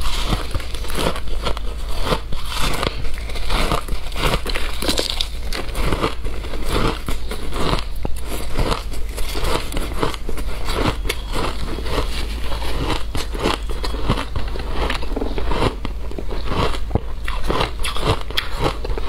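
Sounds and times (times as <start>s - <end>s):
chewing crunchy ice: 0.0s - 19.0s.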